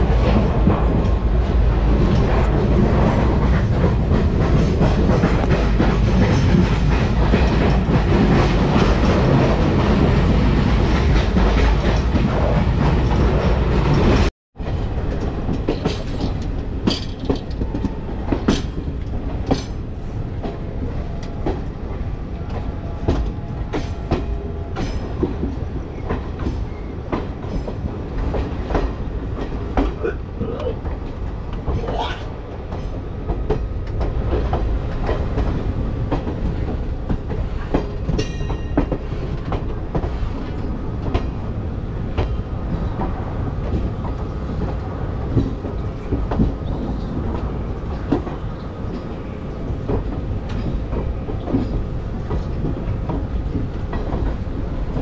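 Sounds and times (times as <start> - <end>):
train coaches rumbling: 0.0 - 55.0
wheels clicking over rail joints: 1.9 - 49.2.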